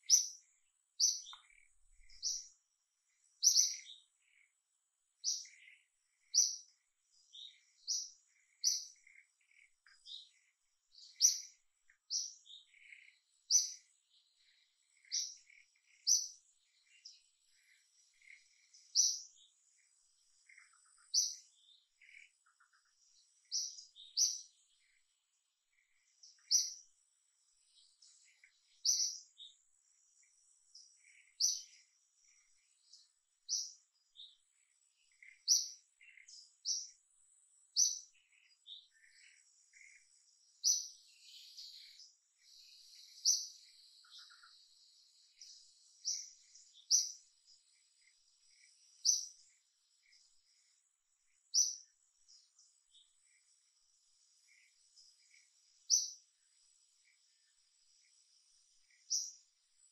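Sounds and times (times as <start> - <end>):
soft bird calls: 0.0 - 59.9.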